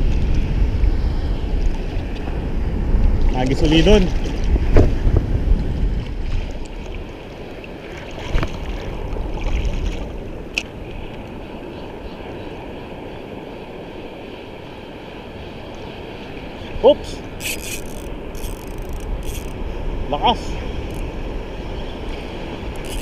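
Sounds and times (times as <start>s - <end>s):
sea waves: 0.0s - 23.0s
wind buffeting microphone: 0.0s - 23.0s.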